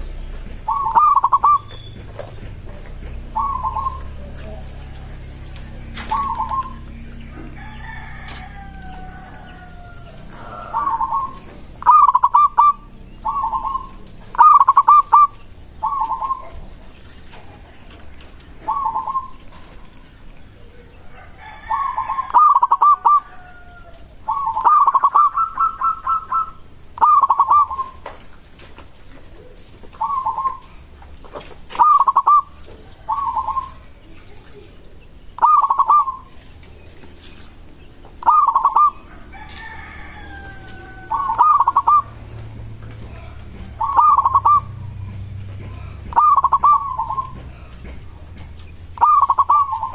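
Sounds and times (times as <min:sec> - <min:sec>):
dove cooing: 0:00.0 - 0:28.2, 0:29.1 - 0:37.4, 0:38.1 - 0:49.9.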